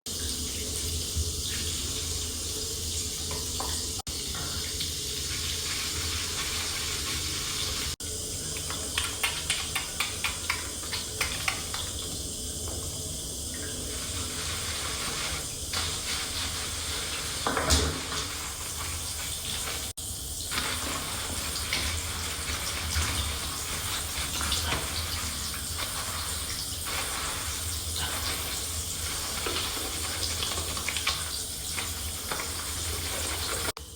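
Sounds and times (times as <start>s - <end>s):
water running from tap: 0.0s - 33.9s.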